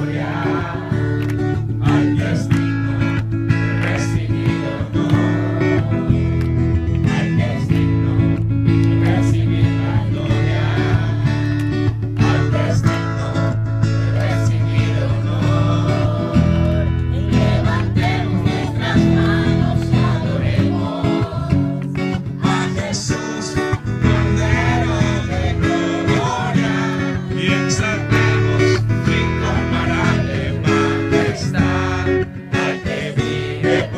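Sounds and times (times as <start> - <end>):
strummed acoustic guitar: 0.0 - 33.9
voices singing: 0.0 - 33.9.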